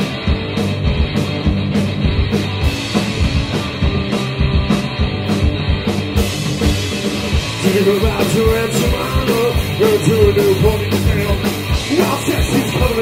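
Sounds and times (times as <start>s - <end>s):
rock band playing live: 0.0s - 13.0s
steady drum beat: 0.0s - 13.0s.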